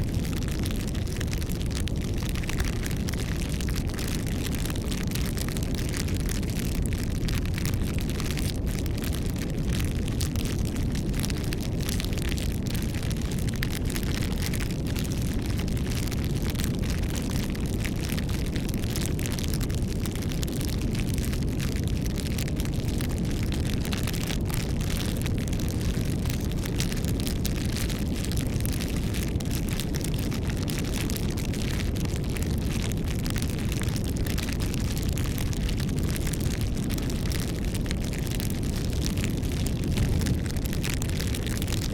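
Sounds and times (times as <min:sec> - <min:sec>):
fire crackles and pops: 0:00.0 - 0:41.9
low rush of fire flames: 0:00.0 - 0:41.9.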